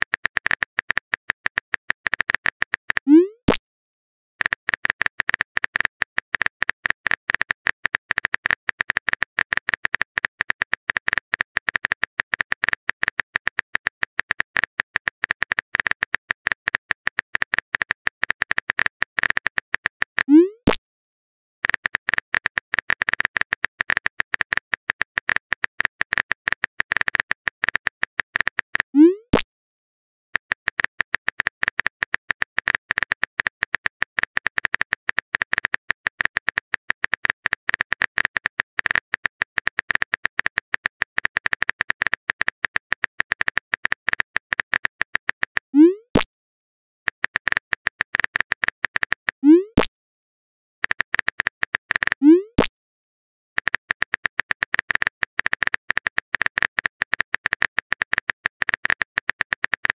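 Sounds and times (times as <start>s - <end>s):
phone keyboard typing clicks: 0.0s - 3.6s, 4.4s - 20.8s, 21.6s - 29.4s, 30.4s - 46.3s, 47.1s - 49.9s, 50.8s - 52.7s, 53.6s - 59.9s.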